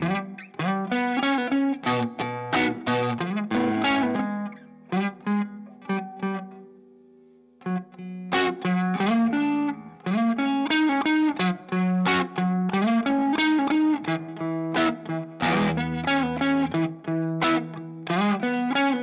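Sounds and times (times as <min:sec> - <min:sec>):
fuzz electric guitar riff: 0:00.0 - 0:06.8, 0:07.6 - 0:19.0.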